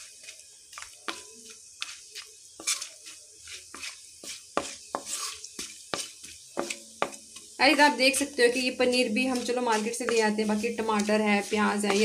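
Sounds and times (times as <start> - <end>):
spatula knocking and scraping pan: 0.0 - 12.0
spices sizzling in hot oil: 0.0 - 12.0.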